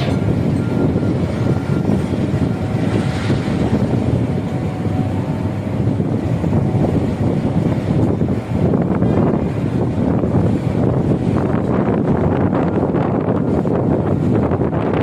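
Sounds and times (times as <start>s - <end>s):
crane machinery rumbling: 0.0s - 15.0s.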